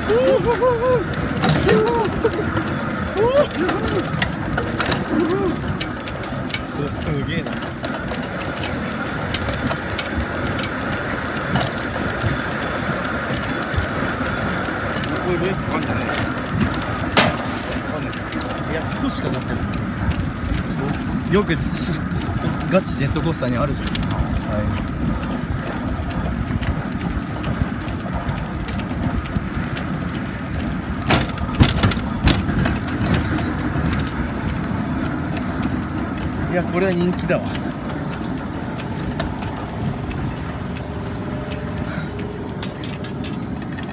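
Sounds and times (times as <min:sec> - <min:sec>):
coaster car rattling on track: 0:00.0 - 0:43.9
rail cart wheels rumbling on rails: 0:00.0 - 0:43.9
light metallic clicks: 0:05.8 - 0:43.9.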